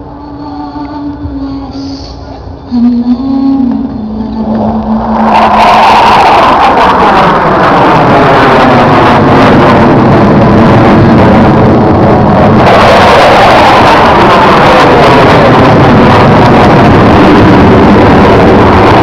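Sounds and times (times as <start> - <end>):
jet engine low pass: 3.6 - 19.0.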